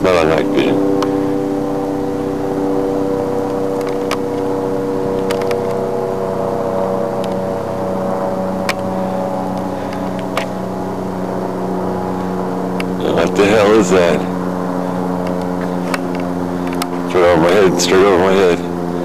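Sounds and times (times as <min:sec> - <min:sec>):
aircraft engine drone: 0:00.0 - 0:19.0.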